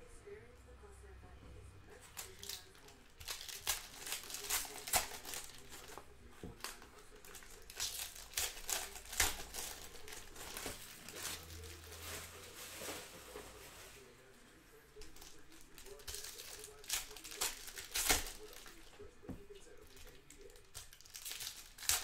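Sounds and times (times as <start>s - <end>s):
foil wrappers tearing and crinkling: 2.0s - 14.0s, 15.0s - 22.0s.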